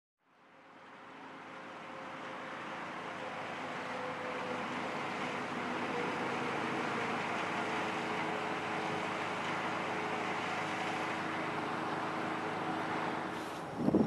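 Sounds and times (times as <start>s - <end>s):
diesel locomotive drone: 0.2s - 14.0s.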